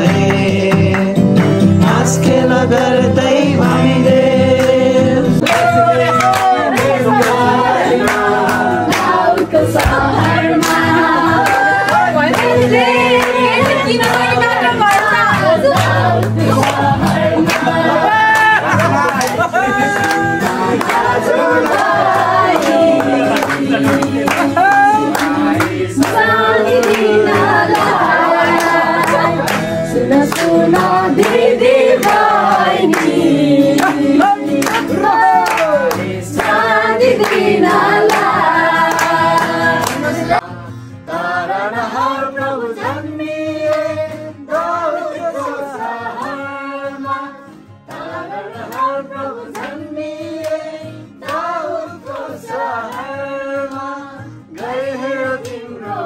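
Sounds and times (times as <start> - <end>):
hand clapping: 0.0 - 2.0, 4.6 - 40.4, 47.9 - 54.0, 54.6 - 55.8
group singing a carol: 0.0 - 56.0.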